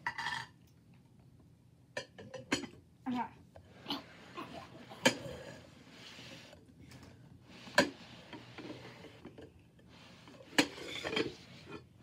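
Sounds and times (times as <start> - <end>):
faint low background noise: 0.0 - 12.0.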